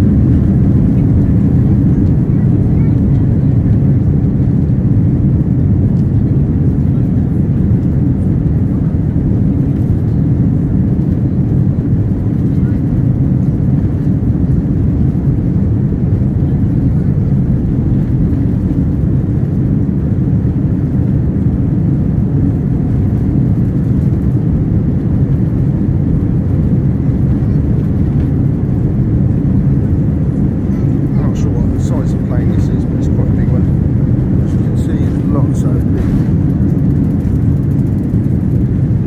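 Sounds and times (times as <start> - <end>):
jet engines rumbling in cabin: 0.0 - 39.0.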